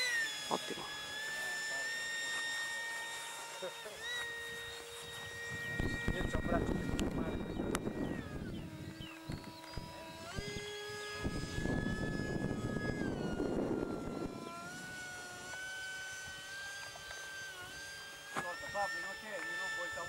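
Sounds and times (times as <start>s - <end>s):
model jet motor whine: 0.0s - 20.0s.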